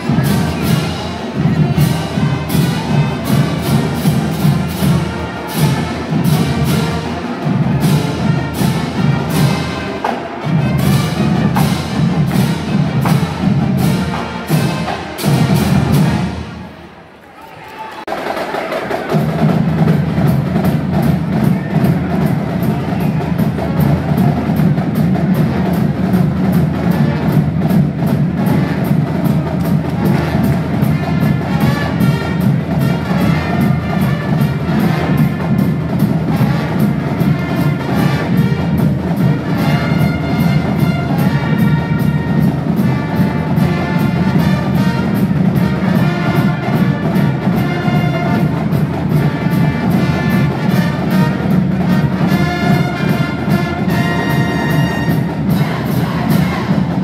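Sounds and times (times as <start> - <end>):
brass section playing: 0.0 - 16.9, 18.4 - 57.0
steady drum beat: 0.0 - 16.9, 18.1 - 57.0.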